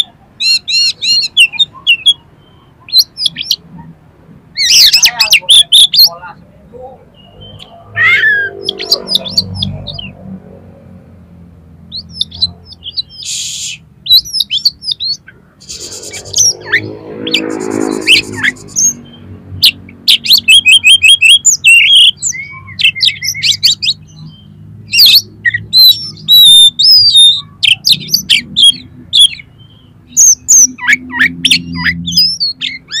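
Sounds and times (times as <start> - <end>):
songbird whistling and trilling: 0.4 - 3.6, 4.5 - 6.1, 7.2 - 10.1, 11.9 - 33.0.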